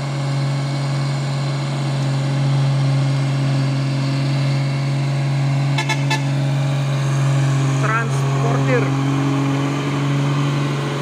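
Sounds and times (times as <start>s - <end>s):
truck diesel engine running hard: 0.0s - 11.0s.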